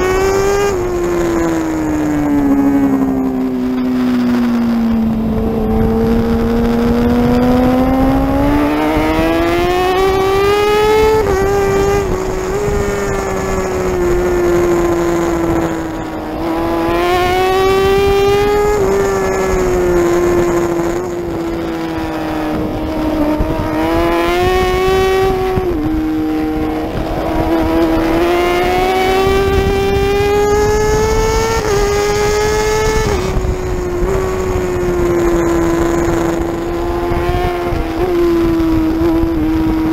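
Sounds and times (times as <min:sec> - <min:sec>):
superbike engine at high revs: 0:00.0 - 0:39.9
wind rush: 0:00.0 - 0:39.9.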